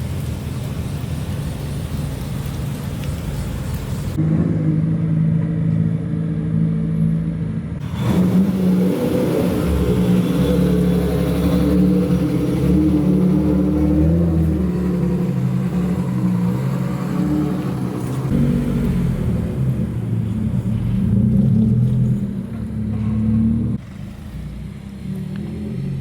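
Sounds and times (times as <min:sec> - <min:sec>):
car engines and exhausts: 0:00.0 - 0:26.0.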